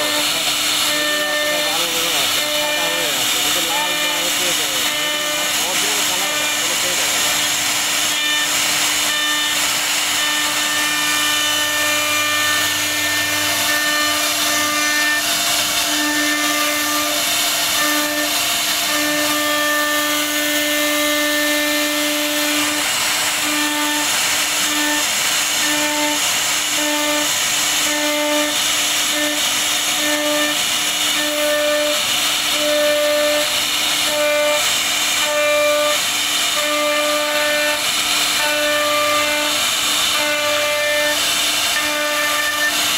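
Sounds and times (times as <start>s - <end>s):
bit cutting wood hiss: 0.0s - 42.9s
router spindle whine: 0.0s - 42.9s.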